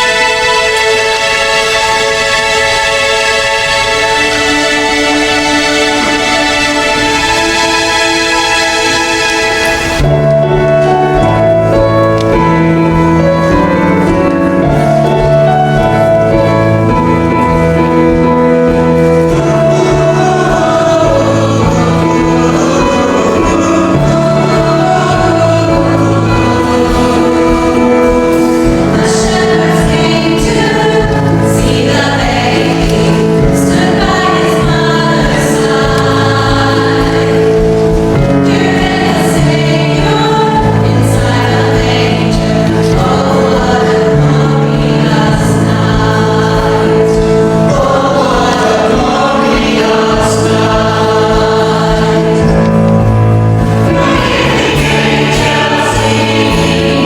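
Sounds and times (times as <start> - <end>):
church choir singing: 0.0 - 57.0
instrumental accompaniment: 0.0 - 57.0.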